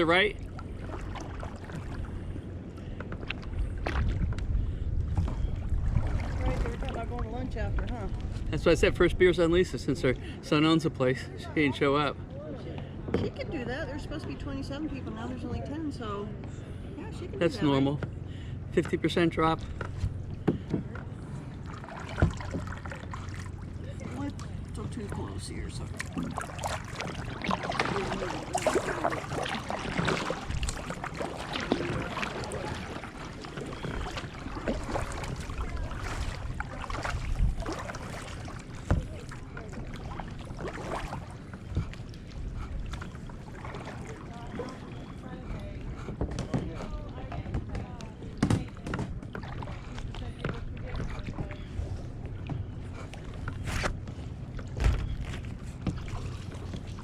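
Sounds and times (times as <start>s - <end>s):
paddle splashing in water: 0.0s - 8.5s, 19.5s - 57.0s
steady low hum: 0.0s - 57.0s.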